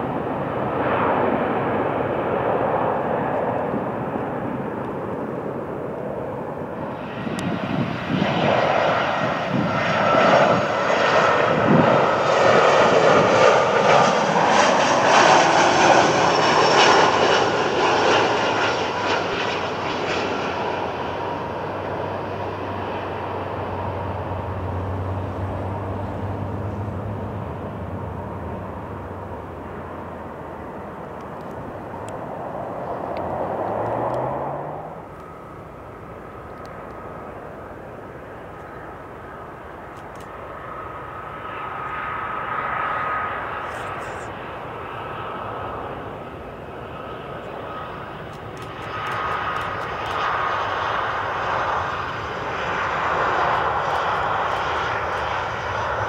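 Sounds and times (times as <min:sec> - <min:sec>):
jet engine high whine: 0:00.0 - 0:56.0
jet engine hum: 0:00.0 - 0:56.0.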